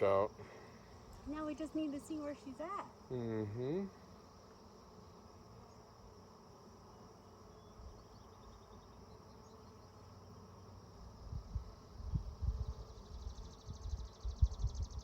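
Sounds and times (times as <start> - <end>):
bees buzzing: 0.0 - 14.7.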